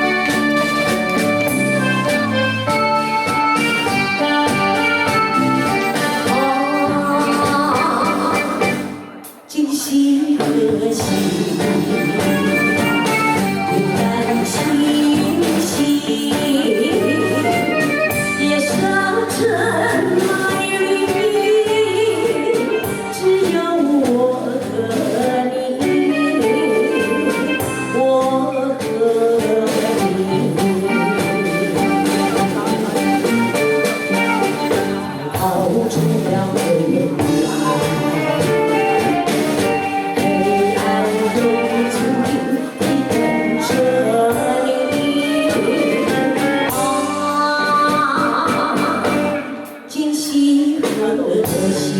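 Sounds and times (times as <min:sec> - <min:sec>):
instrumental accompaniment: 0:00.0 - 0:51.9
woman singing: 0:03.5 - 0:51.9.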